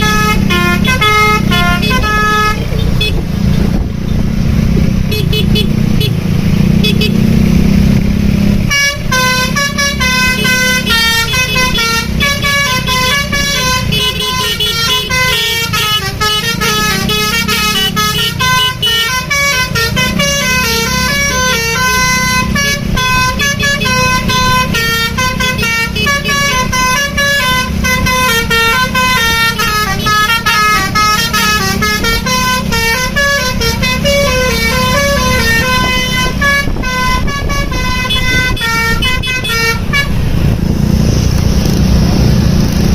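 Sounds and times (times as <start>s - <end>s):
musical bus horn melody: 0.0s - 3.3s, 5.1s - 6.2s, 6.8s - 7.2s, 8.6s - 40.4s
low engine rumble: 0.0s - 42.9s.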